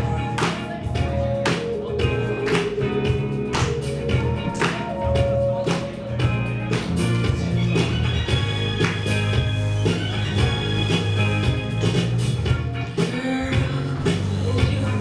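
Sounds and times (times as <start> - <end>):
bass line: 0.0 - 15.0
music with drum beat: 0.0 - 15.0.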